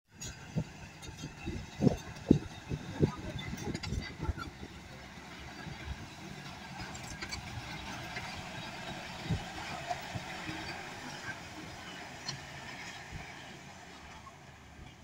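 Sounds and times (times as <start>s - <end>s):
dump truck diesel engine: 0.1s - 15.0s.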